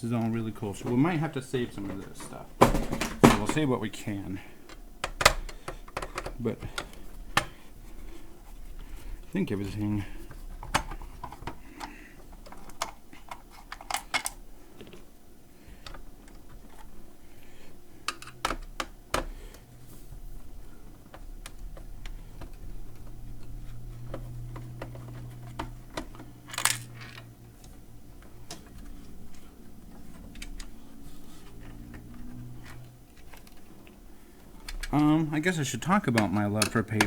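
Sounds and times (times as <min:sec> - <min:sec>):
low steady hum: 0:00.0 - 0:37.0
payphone parts clattering: 0:00.2 - 0:15.0, 0:20.5 - 0:37.0.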